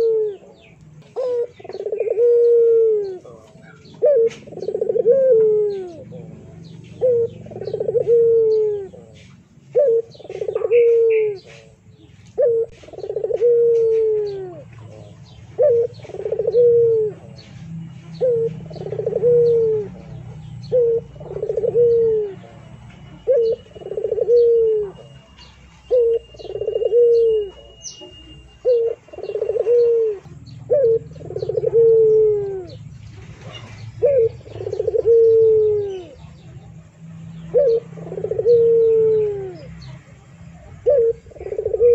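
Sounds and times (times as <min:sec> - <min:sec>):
bird calling: 0:00.0 - 0:41.9.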